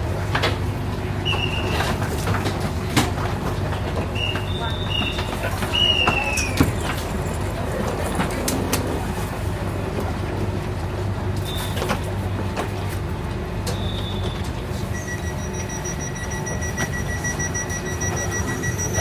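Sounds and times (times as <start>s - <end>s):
train carriage low hum: 0.0s - 19.0s.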